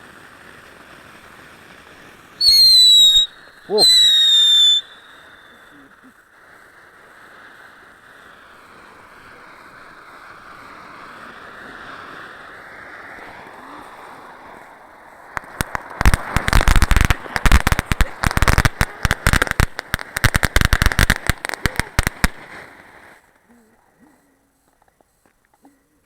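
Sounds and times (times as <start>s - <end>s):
firework high whistle: 0.0s - 5.9s, 7.3s - 23.3s
firework crackling pops: 0.0s - 23.5s
firework fountain hiss: 0.0s - 25.8s.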